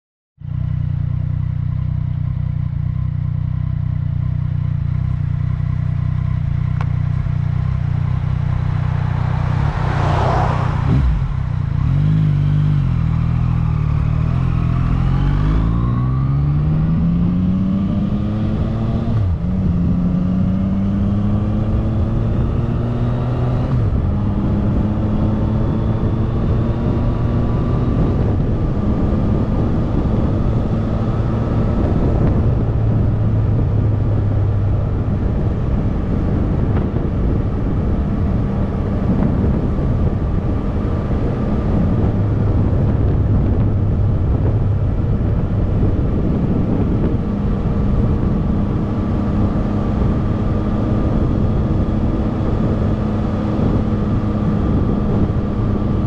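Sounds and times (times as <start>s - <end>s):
motorcycle engine: 0.4s - 56.0s.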